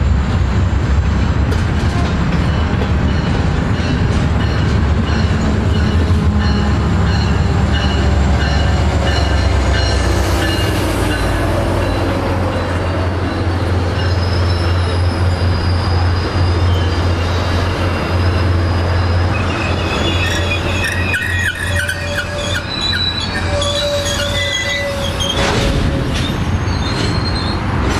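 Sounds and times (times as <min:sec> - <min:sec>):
diesel locomotive droning: 0:00.0 - 0:27.9
rail wheels squealing: 0:02.4 - 0:27.9.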